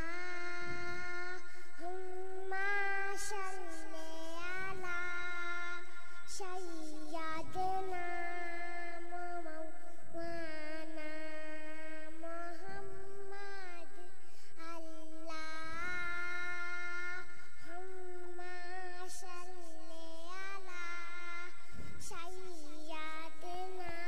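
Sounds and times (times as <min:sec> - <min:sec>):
girl singing into microphone: 0:00.0 - 0:24.0.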